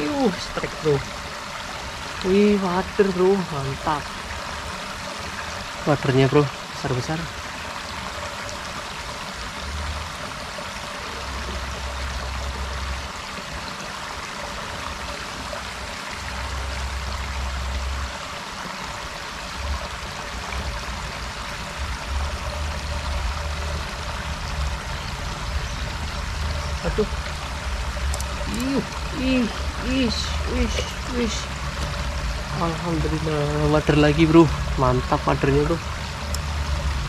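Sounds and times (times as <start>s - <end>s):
low rumbles: 0.0s - 37.0s
water spilling over dam: 0.0s - 37.0s.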